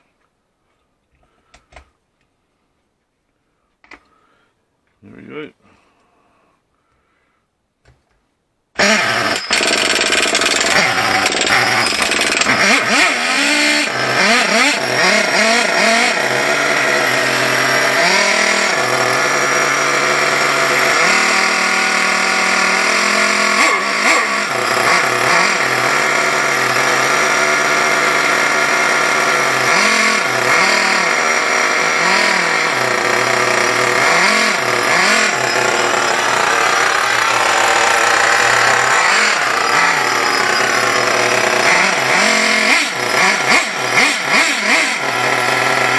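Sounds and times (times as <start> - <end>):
model car engine buzzing and revving: 8.8 - 45.9.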